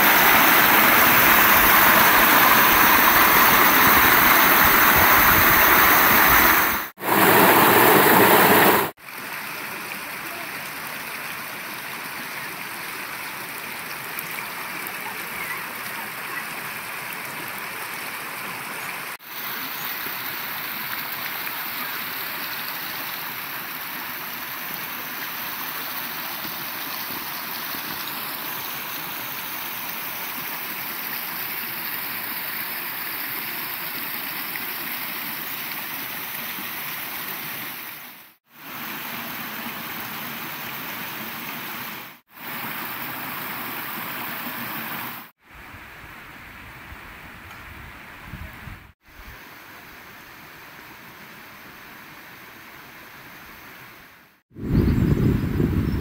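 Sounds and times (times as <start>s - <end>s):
creek rushing over rocks: 0.0s - 45.3s.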